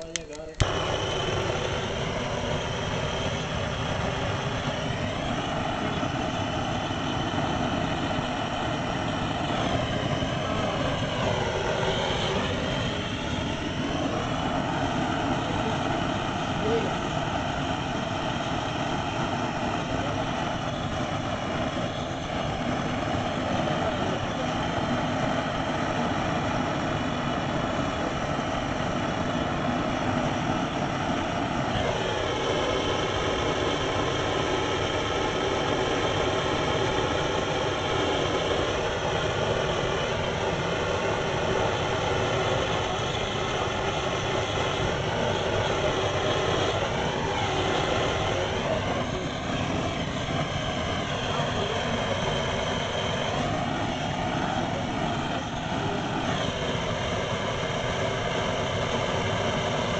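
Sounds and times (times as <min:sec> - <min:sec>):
blowtorch burning: 0:00.0 - 0:59.9.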